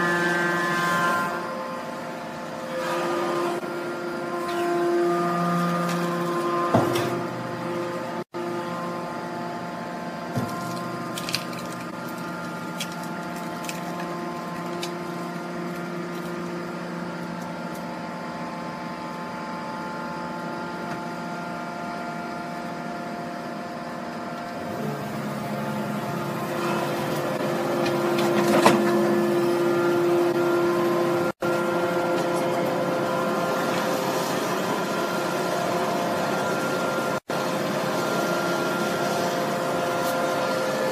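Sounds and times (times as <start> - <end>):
hydraulic baler whining: 0.0 - 40.9.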